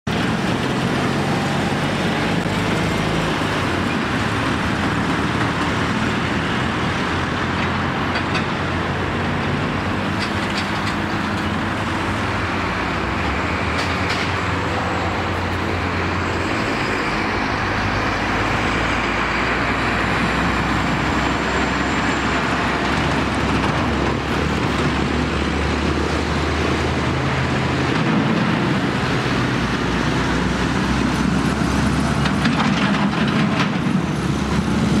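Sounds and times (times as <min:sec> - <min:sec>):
passing road traffic: 0:00.0 - 0:35.0
tractor diesel engine: 0:00.0 - 0:35.0.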